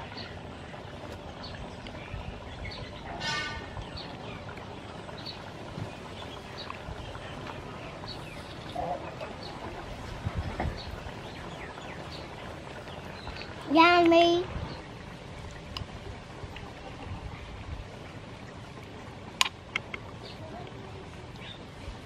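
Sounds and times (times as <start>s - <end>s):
small birds chirping: 0.0s - 3.2s, 3.8s - 15.9s, 19.7s - 22.0s.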